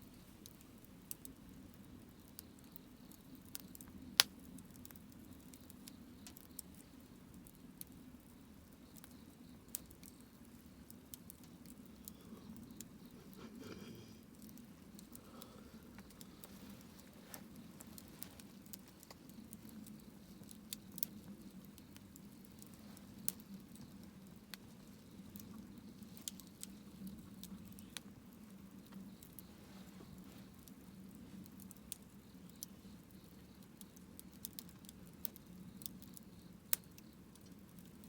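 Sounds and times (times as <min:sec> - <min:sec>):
low steady hum: 0:00.0 - 0:34.5
campfire crackling: 0:00.0 - 0:38.0.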